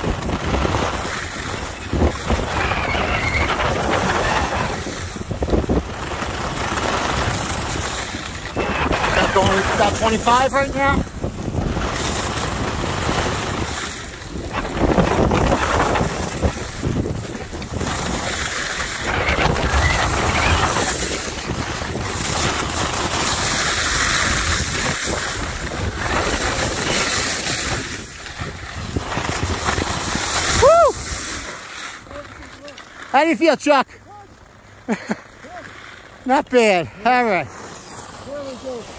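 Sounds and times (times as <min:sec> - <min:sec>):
wind rushing over microphone: 0:00.0 - 0:31.5
skis scraping on snow: 0:00.0 - 0:38.9.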